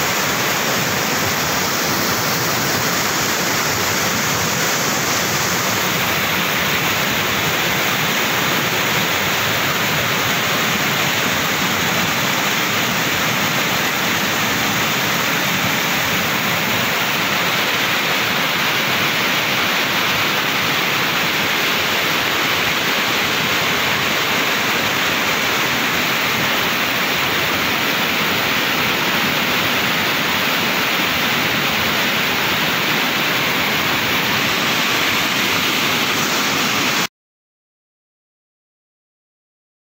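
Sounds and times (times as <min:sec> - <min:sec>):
flooded river rushing: 0:00.0 - 0:37.1.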